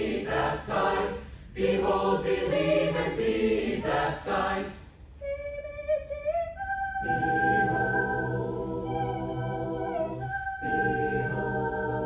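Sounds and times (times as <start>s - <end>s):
chamber choir singing: 0.0s - 4.9s, 6.8s - 12.0s.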